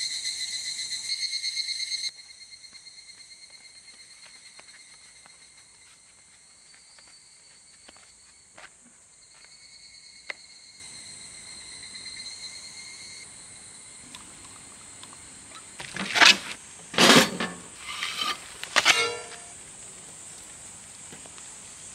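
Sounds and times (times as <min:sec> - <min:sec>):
crickets chirring: 0:00.0 - 0:21.9.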